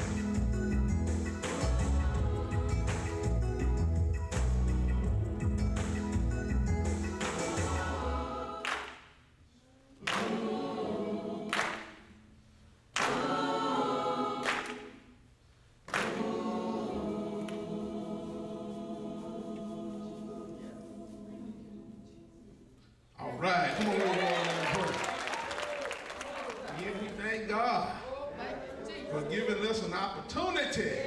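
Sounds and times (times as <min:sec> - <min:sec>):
gospel choir singing chords: 0:00.0 - 0:23.0, 0:27.8 - 0:31.0.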